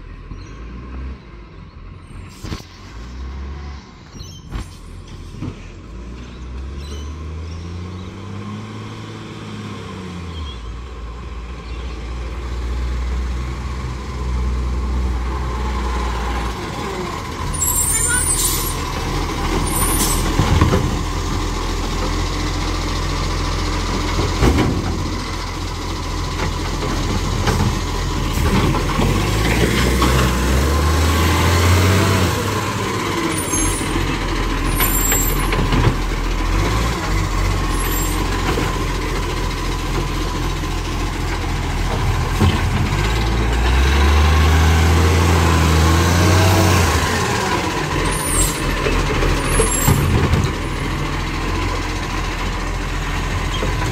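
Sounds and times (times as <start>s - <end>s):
garbage truck diesel engine revving: 5.0s - 53.9s.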